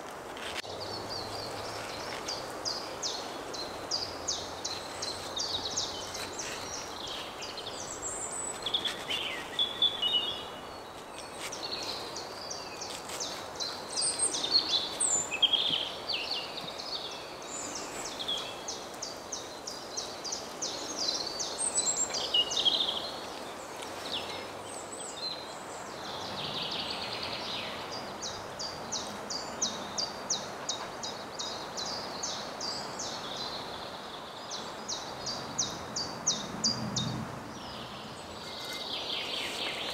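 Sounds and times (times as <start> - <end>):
soft forest background noise: 0.0 - 39.9.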